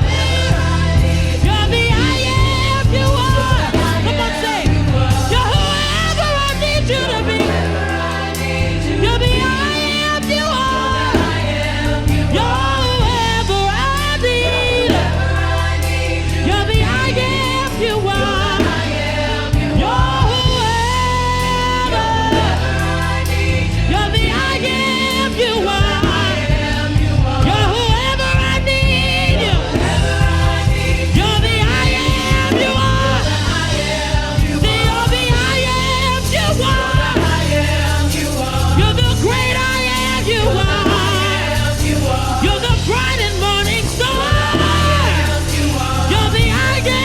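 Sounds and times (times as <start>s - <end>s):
band with steady bass line: 0.0s - 47.0s
voices singing gospel runs: 0.0s - 47.0s.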